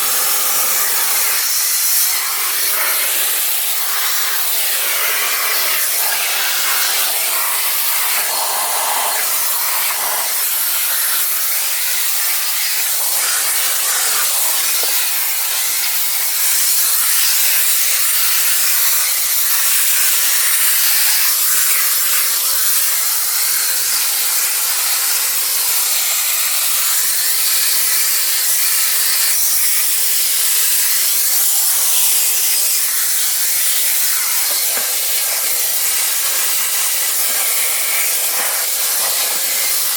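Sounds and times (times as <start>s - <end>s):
vacuum cleaner running: 0.0s - 29.0s, 30.1s - 39.9s.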